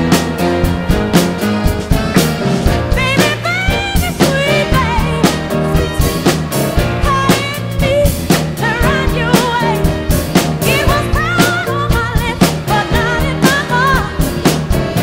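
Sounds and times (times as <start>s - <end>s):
drum kit playing a groove: 0.0s - 15.0s
song with singing voice: 0.0s - 15.0s.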